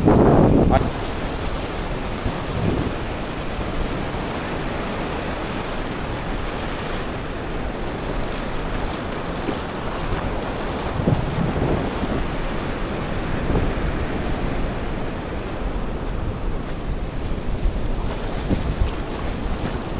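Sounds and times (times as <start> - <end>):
sea surf washing on beach: 0.0 - 19.9
wind on microphone: 0.0 - 19.9.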